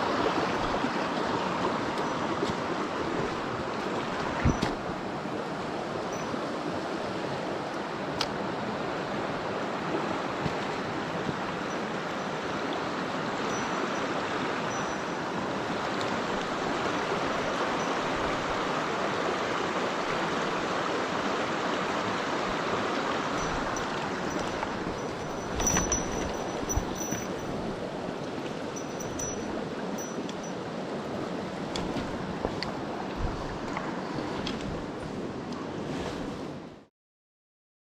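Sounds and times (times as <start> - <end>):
stream water rushing: 0.0 - 36.8.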